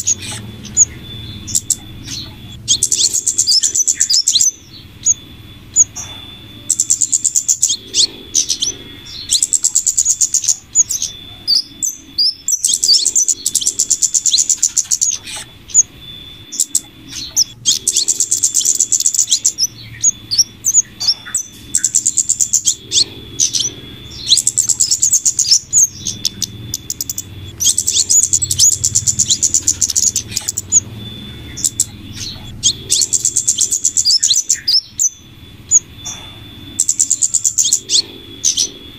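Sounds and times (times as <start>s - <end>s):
high rapid bird trills: 0.0s - 38.9s.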